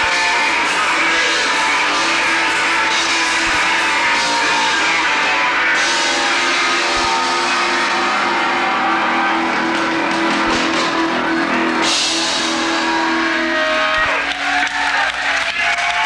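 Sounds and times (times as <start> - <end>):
live punk band playing loud: 0.0 - 16.0.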